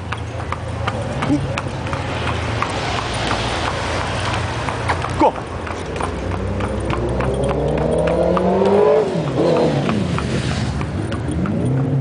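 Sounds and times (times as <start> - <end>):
hooves clip-clopping on road: 0.0 - 12.0
motorbike passing: 0.0 - 12.0.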